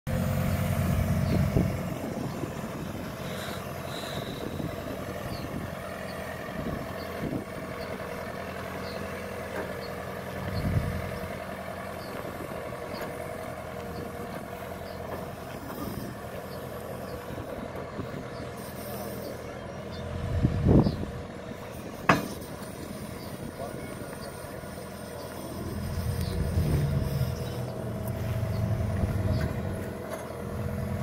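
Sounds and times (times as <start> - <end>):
tractor engine running: 0.1 - 31.0.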